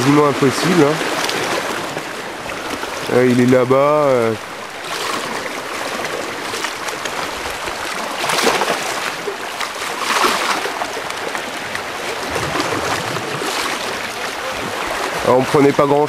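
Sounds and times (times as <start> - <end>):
sea water lapping: 0.0 - 16.0
water splashing surges: 0.0 - 16.0.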